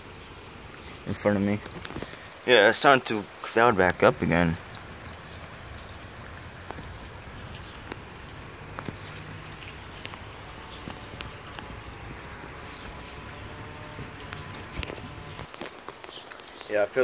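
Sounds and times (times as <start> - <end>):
steady rain: 0.0 - 17.0
drops ticking on surface: 0.2 - 17.0.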